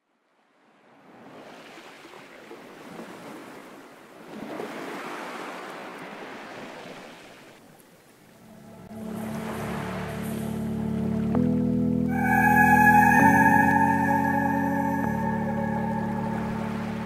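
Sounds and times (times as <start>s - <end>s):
sea waves washing ashore: 0.3s - 17.0s.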